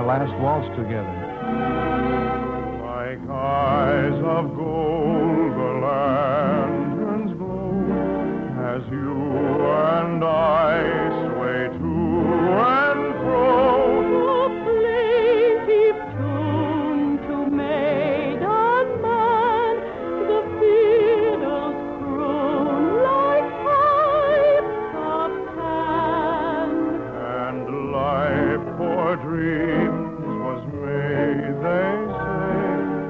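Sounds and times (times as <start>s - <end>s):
orchestra playing a waltz: 0.0s - 33.0s
person singing with vibrato: 2.8s - 33.0s.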